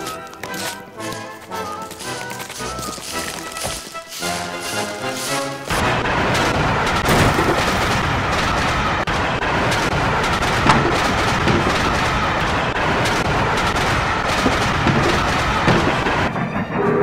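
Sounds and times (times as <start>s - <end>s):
sharp crack: 2.0s - 16.4s
steam train clattering and rumbling: 3.4s - 17.0s.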